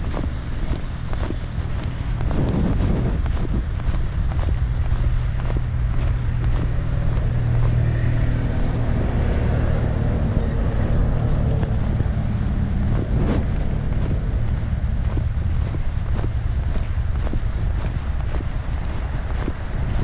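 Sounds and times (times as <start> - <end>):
footsteps: 0.0 - 20.0
low wind rumble on microphone: 0.0 - 20.0
vehicle passing close by: 0.0 - 20.0.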